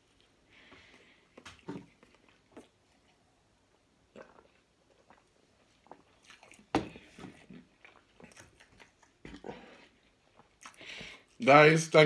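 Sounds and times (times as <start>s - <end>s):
person chewing: 0.0s - 11.4s
person sipping juice: 0.1s - 11.4s.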